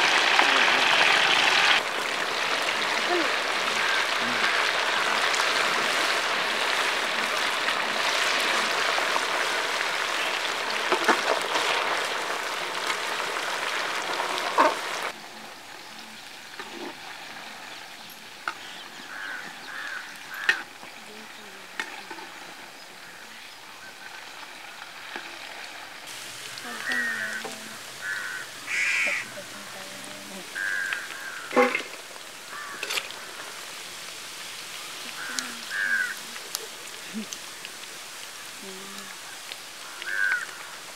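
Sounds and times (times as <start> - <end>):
chicken deep-frying sizzle: 0.0 - 40.9.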